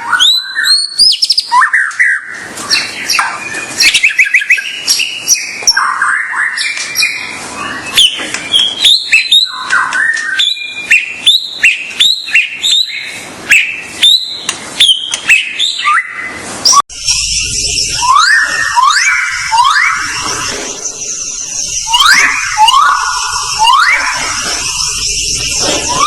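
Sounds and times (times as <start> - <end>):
repeated rising bird whistles: 0.0 - 26.0
songbird chirps and whistles: 0.0 - 26.0.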